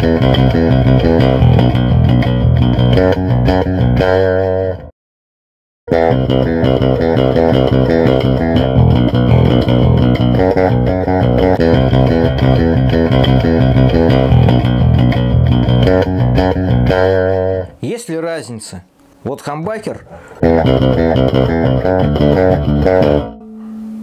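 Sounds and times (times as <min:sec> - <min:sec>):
electric bass plucked notes: 0:00.0 - 0:04.9, 0:05.9 - 0:17.8, 0:20.4 - 0:24.0.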